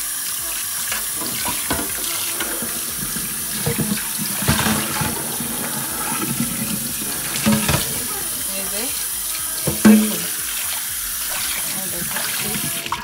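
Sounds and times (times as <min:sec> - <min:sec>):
pan scrubbed by hand: 0:00.0 - 0:13.0
tap water running onto pan: 0:00.0 - 0:13.0.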